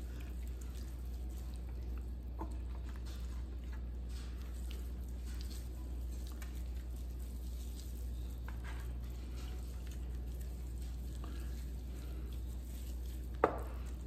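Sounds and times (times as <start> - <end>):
squishing of raw meat: 0.0 - 14.0
steady low hum: 0.0 - 14.0.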